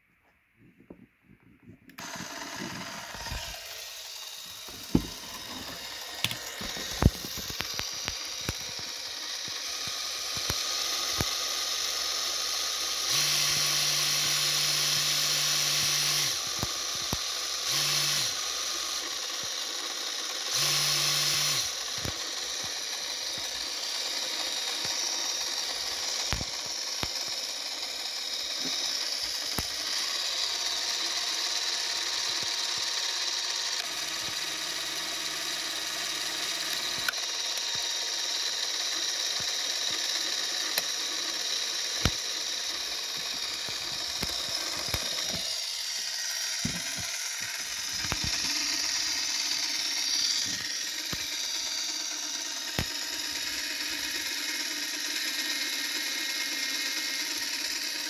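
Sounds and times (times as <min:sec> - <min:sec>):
film camera motor whirring: 0:01.9 - 0:58.0
small mechanical clicks: 0:01.9 - 0:58.0.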